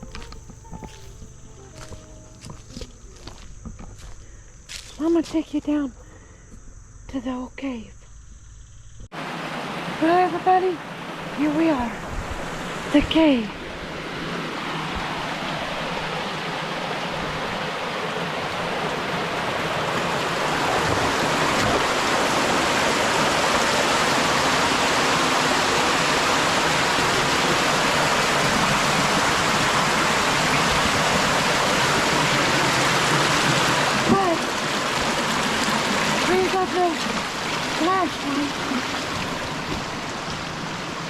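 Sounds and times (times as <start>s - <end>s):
creek water rushing over rocks: 0.0s - 4.2s, 9.2s - 41.0s.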